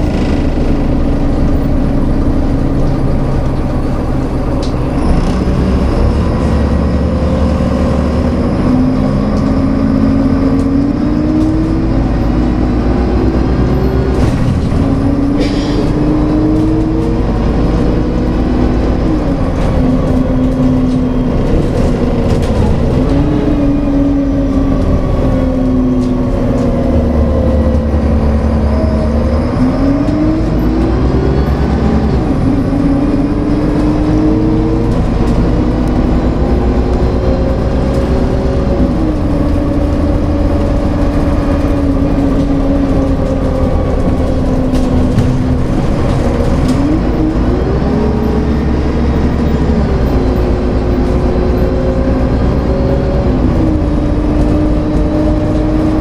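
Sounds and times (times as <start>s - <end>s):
bus engine drone: 0.0s - 56.0s
drivetrain whine: 0.0s - 56.0s.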